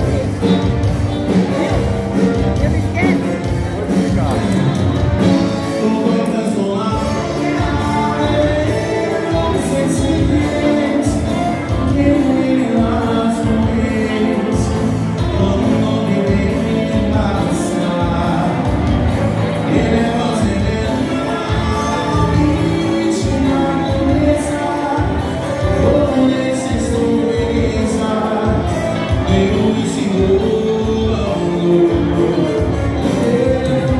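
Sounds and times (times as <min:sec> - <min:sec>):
live dance music: 0:00.0 - 0:33.9
person singing: 0:00.0 - 0:33.9.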